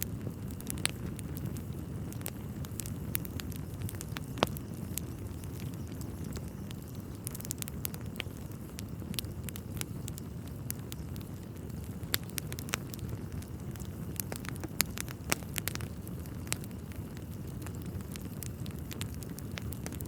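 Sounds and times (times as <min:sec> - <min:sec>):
fire flames rumbling: 0:00.0 - 0:20.0
logs crackling and popping: 0:00.0 - 0:20.0.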